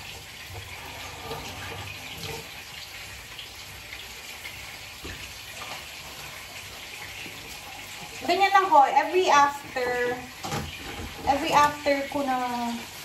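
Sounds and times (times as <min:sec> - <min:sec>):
dishes being washed: 0:00.0 - 0:13.0
faucet running into sink: 0:00.0 - 0:13.0.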